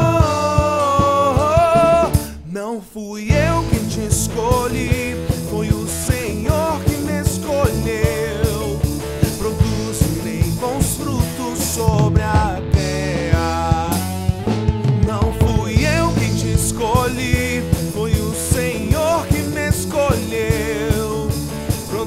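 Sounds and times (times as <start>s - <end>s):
drum kit beat: 0.0s - 2.5s, 3.3s - 22.0s
electric bass: 0.0s - 2.5s, 3.3s - 22.0s
electric guitar: 0.0s - 2.5s, 3.2s - 22.0s
keyboard: 0.0s - 2.6s, 3.3s - 22.0s
man singing: 0.0s - 22.0s.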